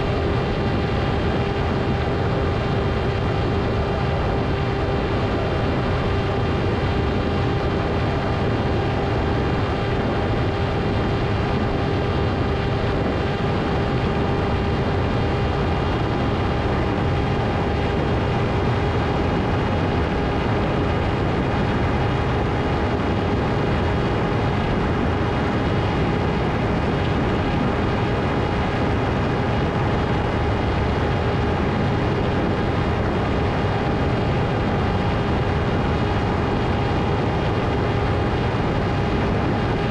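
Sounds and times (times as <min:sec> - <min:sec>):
electric motor and propeller droning: 0:00.0 - 0:39.9.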